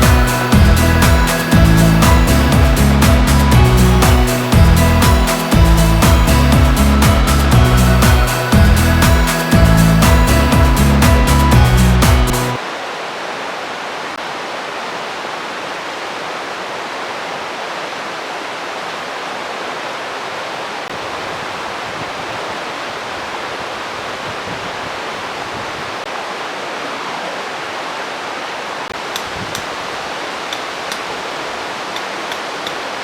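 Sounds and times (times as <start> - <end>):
running water rushing: 0.0 - 33.0.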